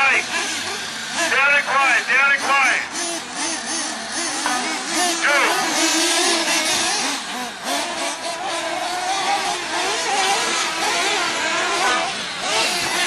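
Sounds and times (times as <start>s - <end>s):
model car engines buzzing and revving: 0.0s - 13.0s.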